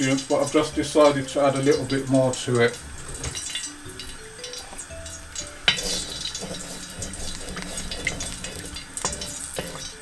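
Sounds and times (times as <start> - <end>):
ghee sizzling in a pan: 0.0 - 10.0
light jazz music: 0.0 - 10.0.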